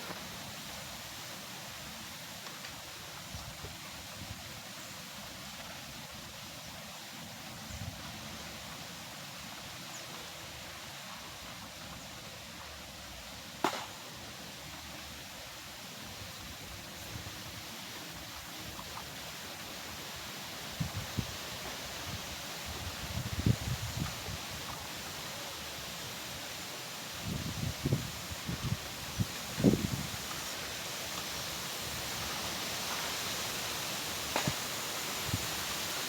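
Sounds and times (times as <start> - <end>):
wind: 0.0 - 36.0.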